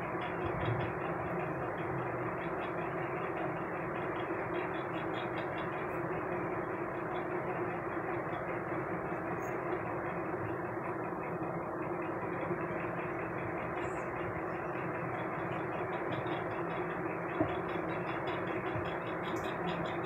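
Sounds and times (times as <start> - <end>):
steady background noise with low hum: 0.0 - 20.0.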